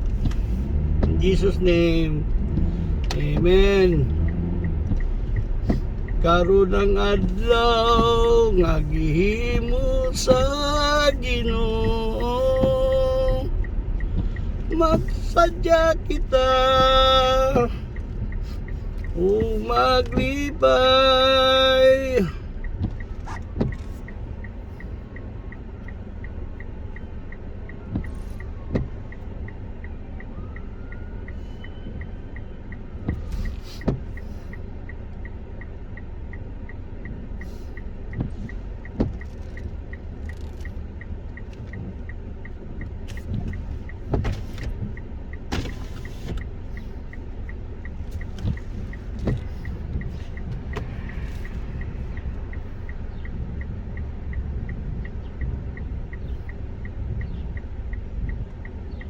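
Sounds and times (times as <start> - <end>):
faint regular ticking: 0.0 - 59.0
road and engine rumble: 0.0 - 59.0.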